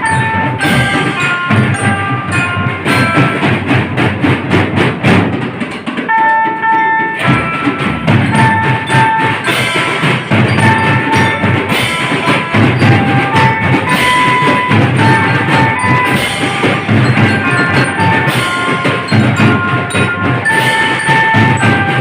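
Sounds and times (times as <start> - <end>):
bell lyra melody: 0.0 - 4.2, 6.0 - 22.0
snare and bass drums beating: 0.0 - 22.0.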